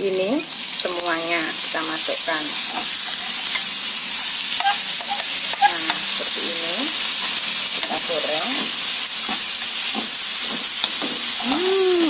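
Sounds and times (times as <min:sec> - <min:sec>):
vegetables sizzling in hot oil: 0:00.0 - 0:12.0
spatula scraping a wok: 0:01.7 - 0:11.5.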